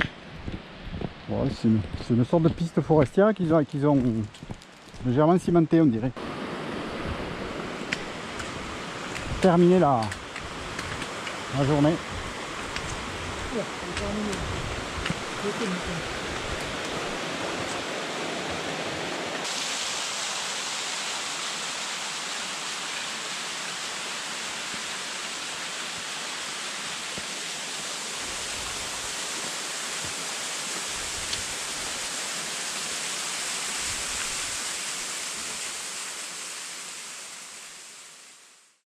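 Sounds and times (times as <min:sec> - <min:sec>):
stream rushing over rocks: 0:06.2 - 0:38.5.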